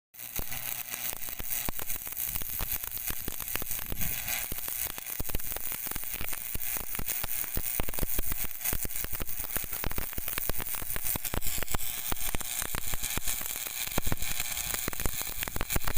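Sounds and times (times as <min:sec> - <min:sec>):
welding arc crackling and sizzling: 0:00.1 - 0:15.9.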